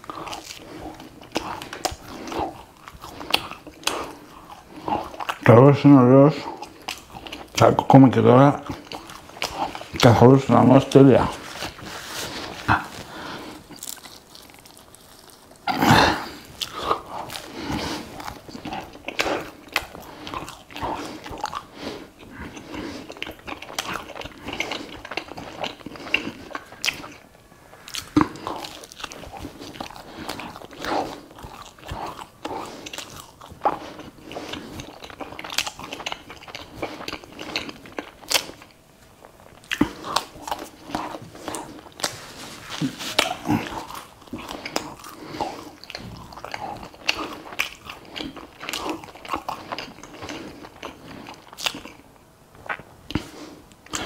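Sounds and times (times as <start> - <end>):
crunching and chewing pizza: 0.0 - 54.0.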